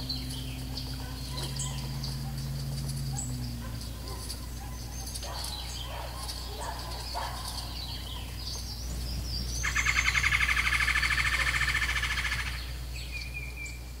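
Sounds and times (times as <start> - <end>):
faint high bird chirps: 0.0 - 14.0
loud rapid bird trill: 0.0 - 14.0.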